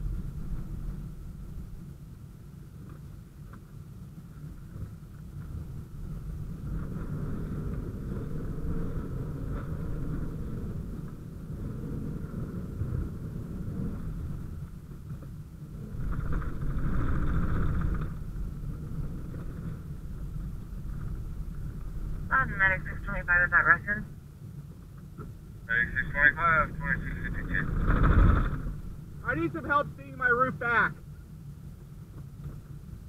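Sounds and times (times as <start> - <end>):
vehicle engine rumbling: 0.0 - 33.0.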